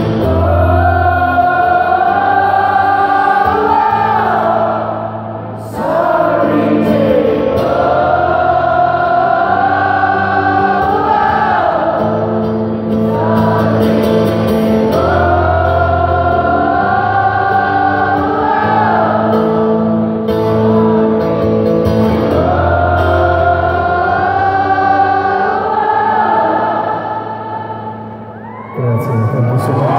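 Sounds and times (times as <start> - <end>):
choir-like voices singing: 0.0 - 29.9.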